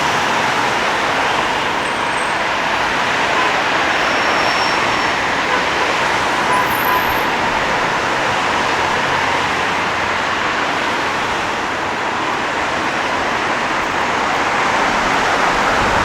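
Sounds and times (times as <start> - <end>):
road traffic passing cars: 0.0 - 16.0.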